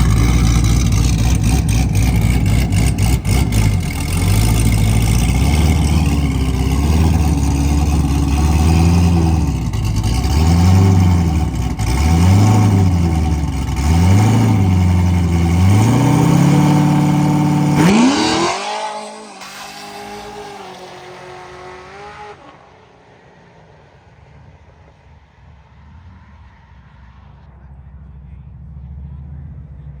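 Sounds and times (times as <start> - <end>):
car launching and pulling away: 0.0 - 25.2
drag car engine revving: 0.0 - 27.4.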